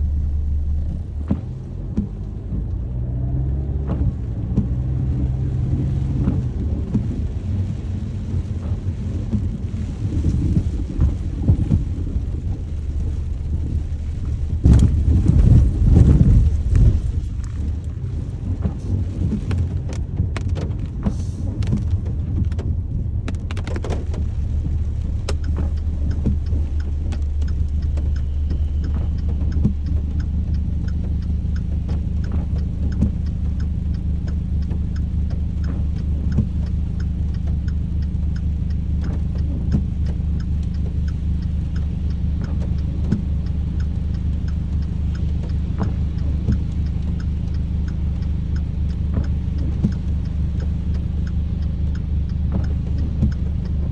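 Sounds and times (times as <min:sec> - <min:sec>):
rain rumble inside vehicle: 0:00.0 - 0:53.9
raindrops ticking on metal: 0:00.0 - 0:53.9.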